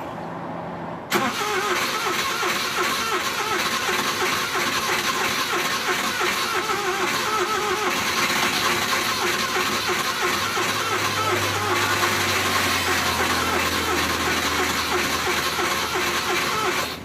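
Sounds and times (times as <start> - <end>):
engine cranking by starter: 1.1 - 17.0.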